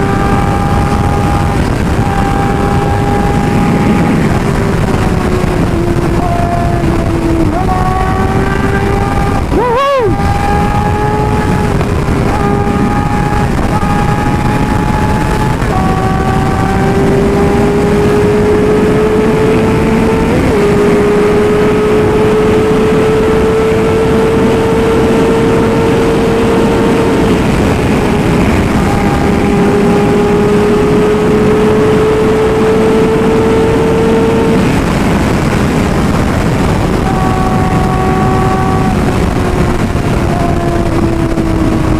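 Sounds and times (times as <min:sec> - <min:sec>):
motorcycle engine high revs: 0:00.0 - 0:41.9
rushing wind noise: 0:00.0 - 0:41.9.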